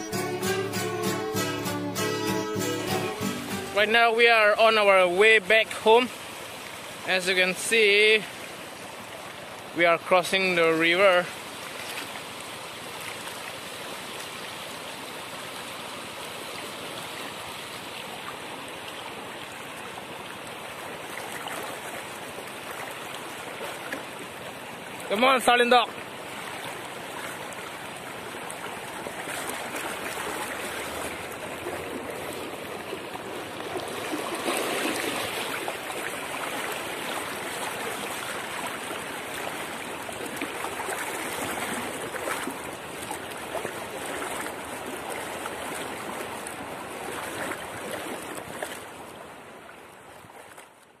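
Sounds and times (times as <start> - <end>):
river rushing: 0.0 - 50.1
legs wading through water: 5.4 - 51.0.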